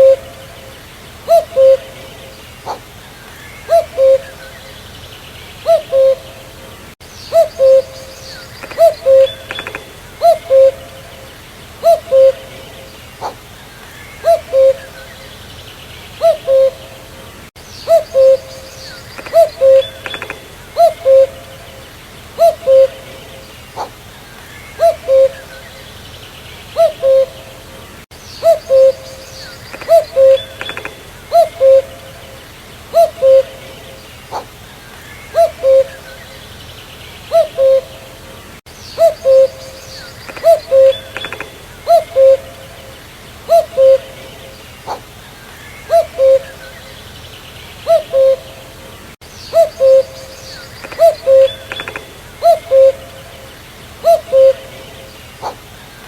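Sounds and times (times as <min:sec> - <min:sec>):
cuckoo calling: 0:00.0 - 0:05.0, 0:05.6 - 0:15.4, 0:16.1 - 0:26.0, 0:26.7 - 0:36.6, 0:37.3 - 0:47.1, 0:47.8 - 0:55.7
faint bird chirps: 0:00.0 - 0:27.6, 0:28.2 - 0:32.3, 0:37.2 - 0:56.0.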